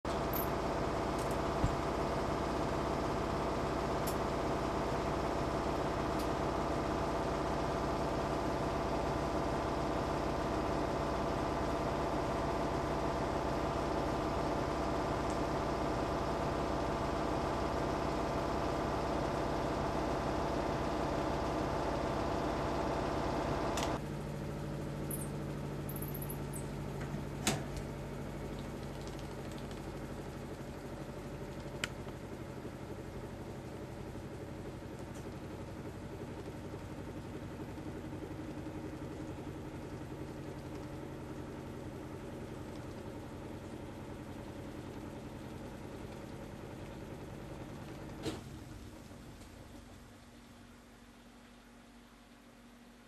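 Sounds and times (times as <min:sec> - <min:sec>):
mechanical hum: 0:00.1 - 0:53.0.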